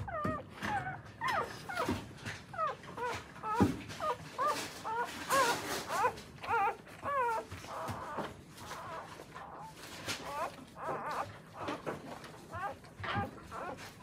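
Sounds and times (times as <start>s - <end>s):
puppies squeaking: 0.0s - 14.0s.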